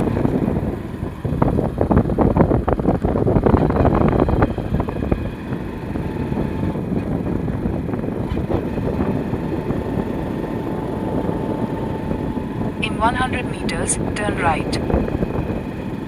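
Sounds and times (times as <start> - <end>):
vehicle road noise rumble: 0.0 - 16.0
wind buffeting microphone: 0.0 - 16.0.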